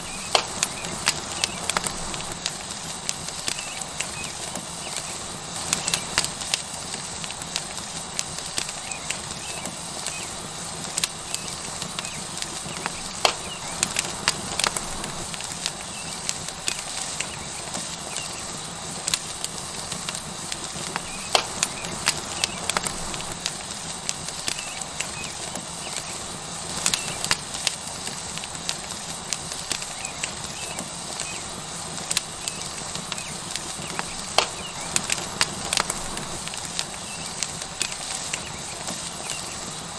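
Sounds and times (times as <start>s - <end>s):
steak sizzling on hot rock: 0.0s - 39.9s
wood fire crackling and popping: 0.0s - 39.9s.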